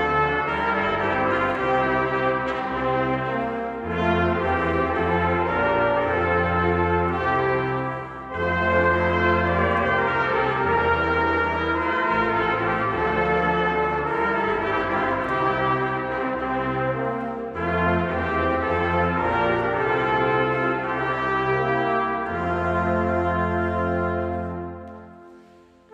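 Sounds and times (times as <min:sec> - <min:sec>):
brass choir playing chords: 0:00.0 - 0:25.9.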